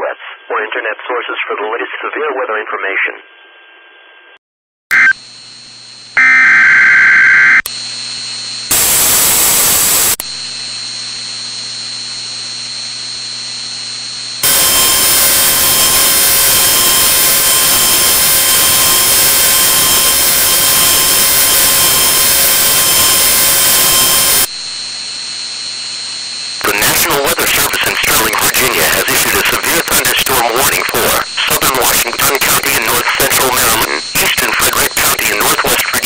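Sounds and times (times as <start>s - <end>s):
electrical hum: 3.2s - 36.0s
harsh static: 4.9s - 36.0s.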